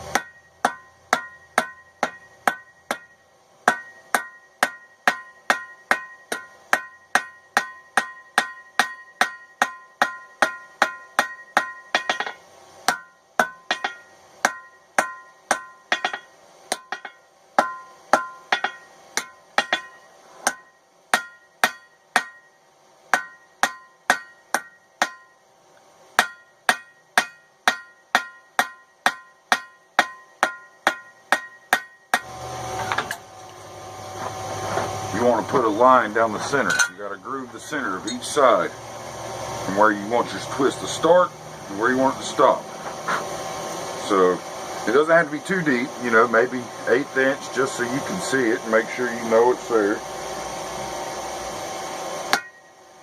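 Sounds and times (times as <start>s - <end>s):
hammer striking metal on anvil: 0.0s - 25.4s, 26.2s - 33.3s, 34.1s - 46.5s, 52.2s - 52.7s.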